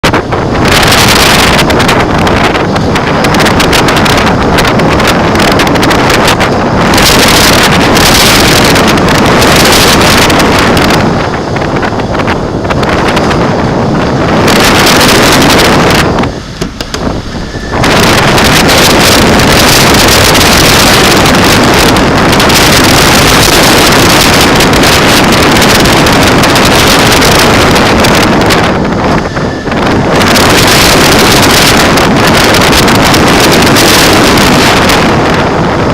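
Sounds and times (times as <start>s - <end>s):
strong wind gusting: 0.0s - 35.9s
wind buffeting microphone: 0.0s - 35.9s.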